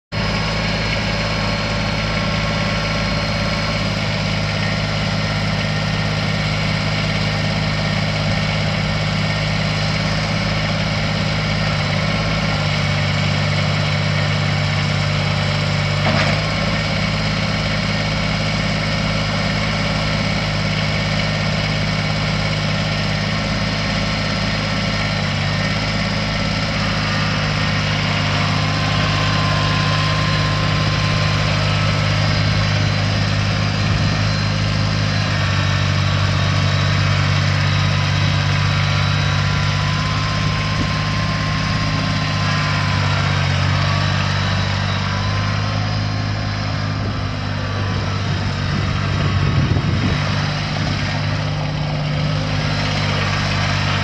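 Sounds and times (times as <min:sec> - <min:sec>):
diesel tractor engine idling: 0:00.1 - 0:54.0.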